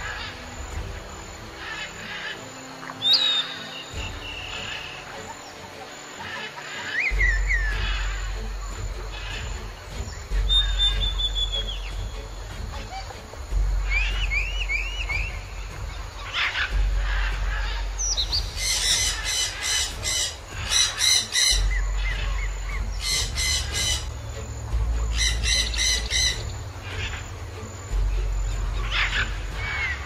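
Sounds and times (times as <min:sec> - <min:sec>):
harsh bird squawks: 0:01.6 - 0:24.2, 0:25.1 - 0:27.3, 0:28.7 - 0:30.0
thin bird chirps: 0:01.6 - 0:30.0.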